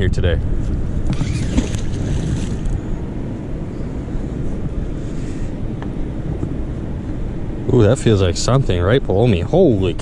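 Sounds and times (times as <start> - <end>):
steady low rumble: 0.0 - 10.0
wind buffeting microphone: 0.0 - 10.0.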